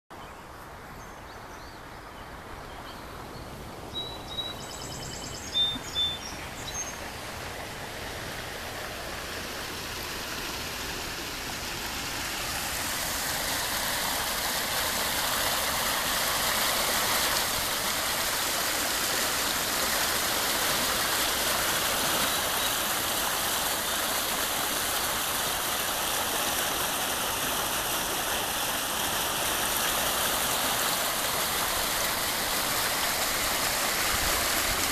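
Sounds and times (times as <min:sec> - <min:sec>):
creek rushing over rocks: 0:05.4 - 0:34.9.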